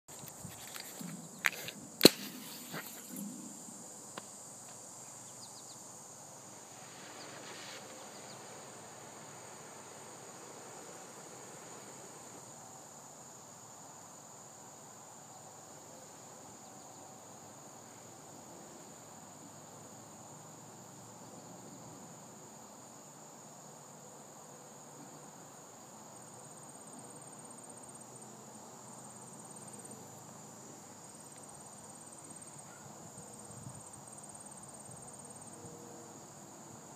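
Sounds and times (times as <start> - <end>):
insects chirping: 0.1 - 36.9.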